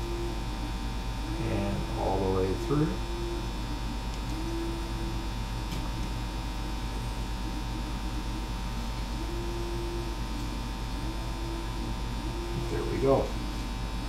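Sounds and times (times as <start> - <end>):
electrical mains hum: 0.0 - 14.0
higher hum tone: 0.0 - 14.0.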